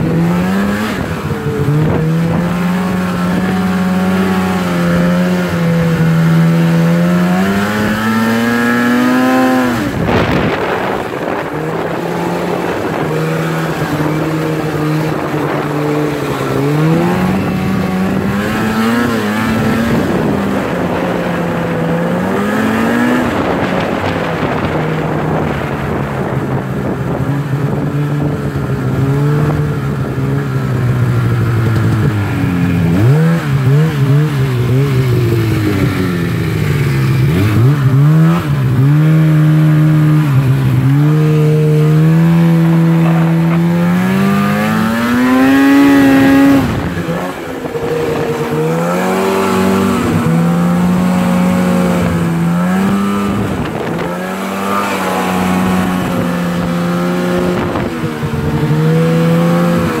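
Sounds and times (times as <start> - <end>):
snowmobile engine: 0.0 - 60.0.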